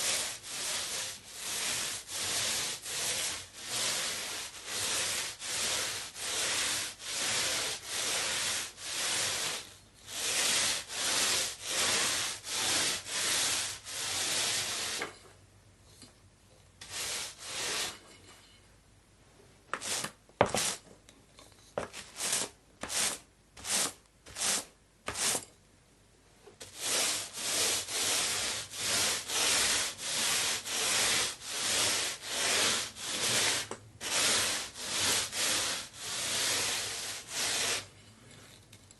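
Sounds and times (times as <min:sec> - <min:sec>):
paint roller strokes: 0:00.0 - 0:15.1, 0:16.8 - 0:18.0, 0:19.8 - 0:20.8, 0:21.8 - 0:25.4, 0:26.6 - 0:38.0.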